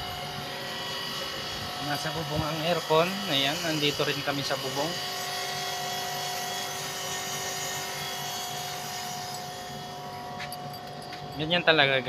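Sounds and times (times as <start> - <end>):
air conditioner unit humming: 0.0 - 12.0.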